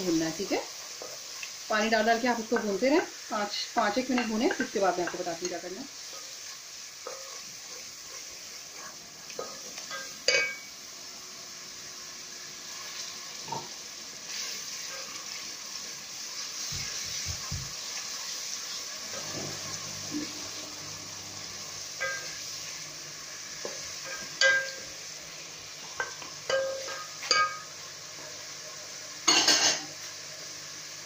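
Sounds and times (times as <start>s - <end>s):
spices sizzling in oil: 0.0s - 31.0s.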